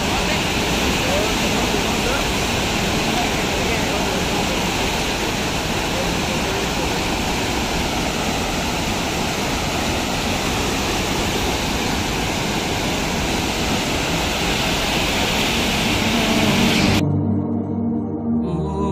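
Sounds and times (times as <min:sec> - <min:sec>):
flood water rushing: 0:00.0 - 0:17.0.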